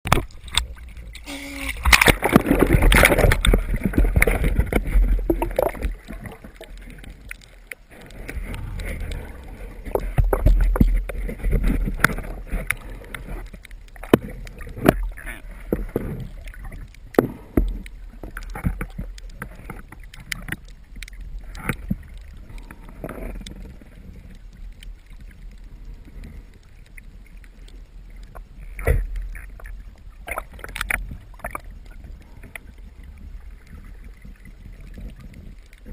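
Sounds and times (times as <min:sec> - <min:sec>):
underwater rumble of moving water: 0:00.0 - 0:35.9.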